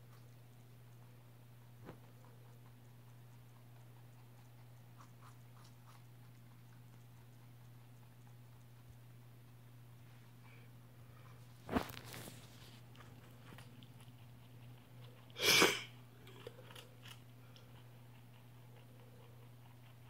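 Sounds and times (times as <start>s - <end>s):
faint steady hum: 0.0s - 20.0s
rabbit chewing and crunching: 0.0s - 20.0s.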